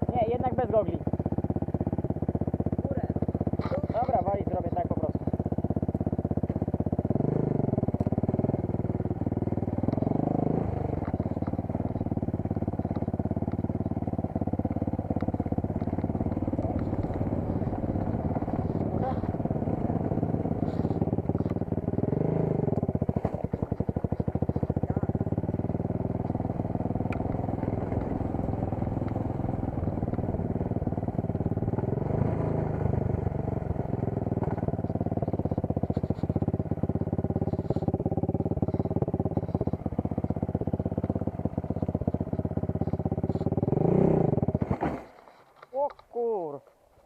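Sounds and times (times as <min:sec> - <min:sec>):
dirt bike engine revving: 0:00.2 - 0:45.1.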